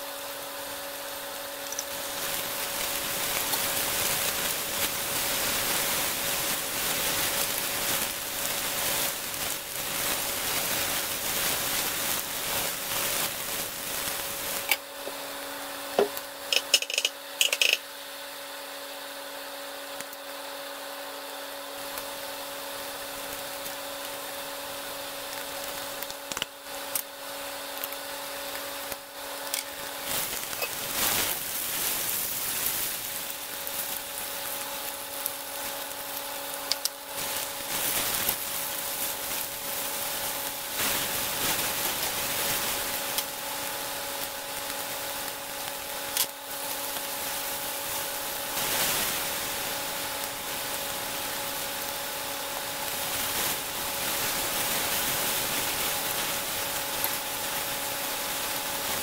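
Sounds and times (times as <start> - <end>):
steady hum: 0.0 - 59.0
vegetables sizzling in a frying pan: 0.0 - 59.0.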